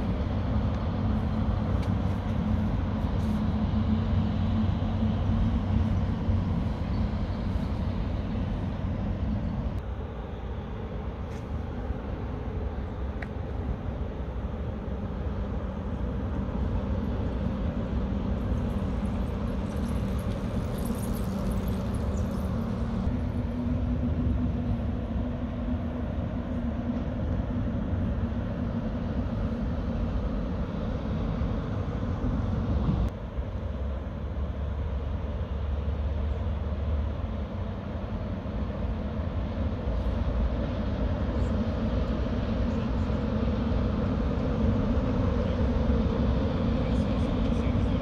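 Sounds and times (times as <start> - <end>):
engine drone: 0.0 - 48.0
heavy traffic rumble: 0.0 - 48.0.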